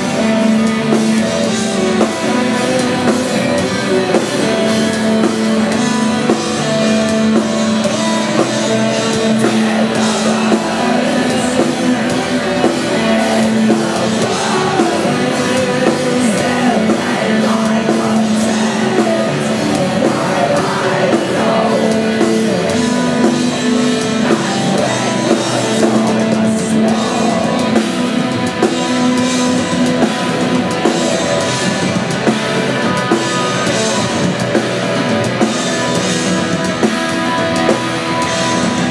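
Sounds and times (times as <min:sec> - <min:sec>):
black metal band playing: 0:00.0 - 0:38.9.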